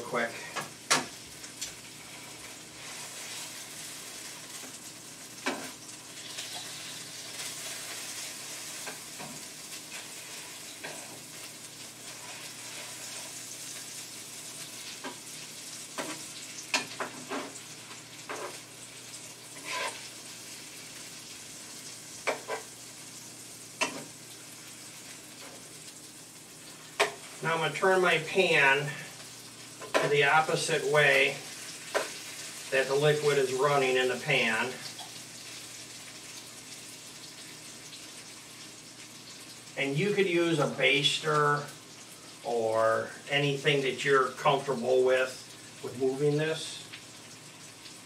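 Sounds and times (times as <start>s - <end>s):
meat sizzling in a frying pan: 0.0s - 48.0s.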